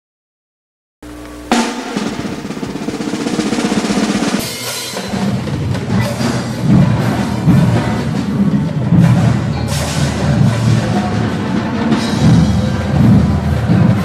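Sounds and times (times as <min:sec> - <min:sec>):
snare and bass drums playing: 0:01.0 - 0:14.0.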